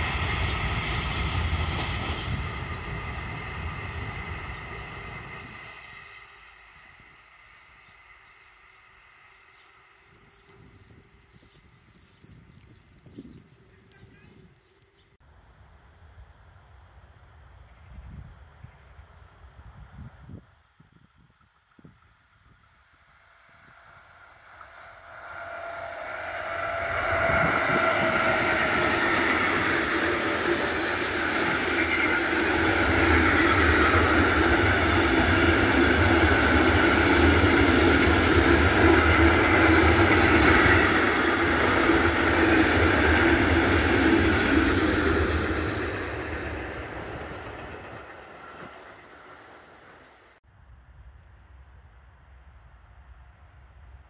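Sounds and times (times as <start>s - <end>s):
freight train passing on rails: 0.0s - 17.5s, 22.4s - 50.4s.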